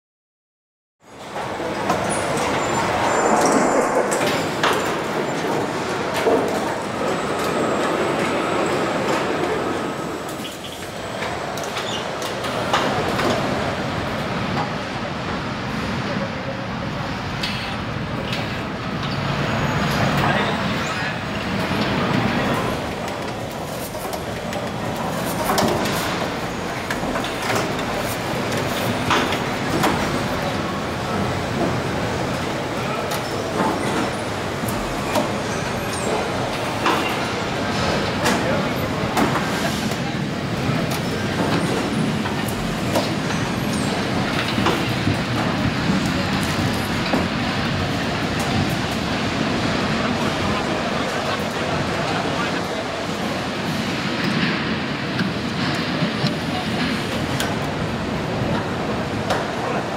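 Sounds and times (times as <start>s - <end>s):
steady factory hum: 1.0s - 59.9s
machinery clanks and clicks: 1.2s - 9.6s, 10.2s - 14.8s, 17.4s - 52.8s.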